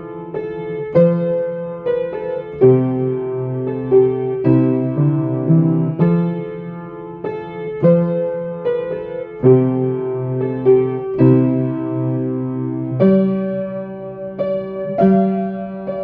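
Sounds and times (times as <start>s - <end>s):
slow solo piano carol: 0.0s - 16.0s.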